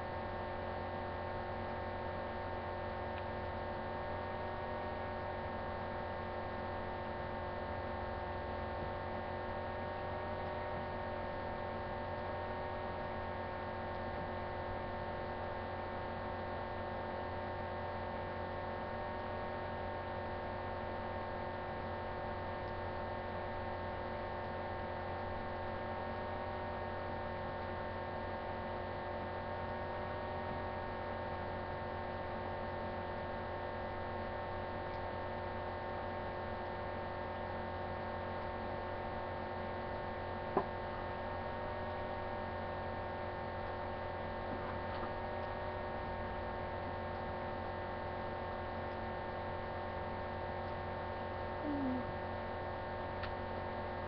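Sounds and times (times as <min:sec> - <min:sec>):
steady electrical hum: 0:00.0 - 0:54.0.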